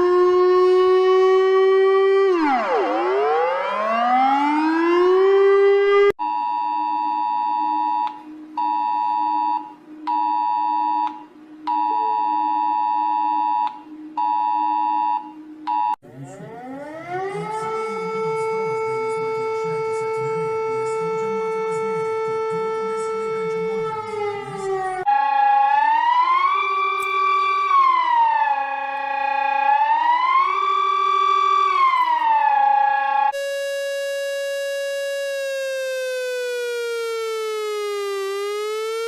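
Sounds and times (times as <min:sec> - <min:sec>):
siren winding up: 0:00.0 - 0:39.0
two-tone electronic alarm: 0:00.0 - 0:39.0.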